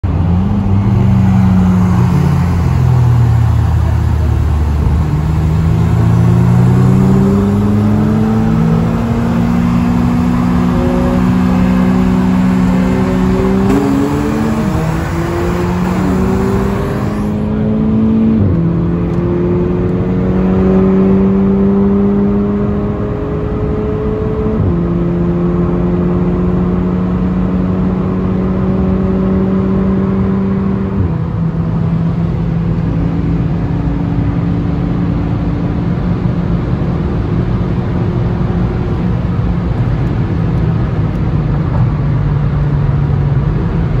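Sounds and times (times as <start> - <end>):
car engine accelerating: 0.0 - 44.0
road and wind noise: 0.0 - 44.0.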